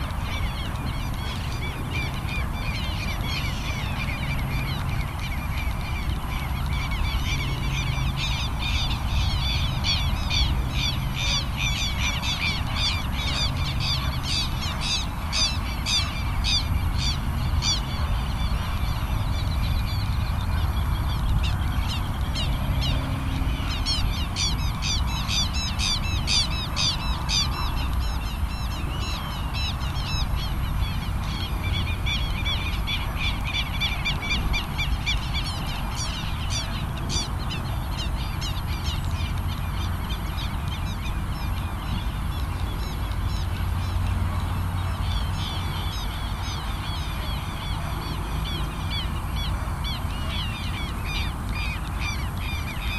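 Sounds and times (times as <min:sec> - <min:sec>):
birds chirping: 0:00.0 - 0:52.9
steady low rumble: 0:00.0 - 0:52.9.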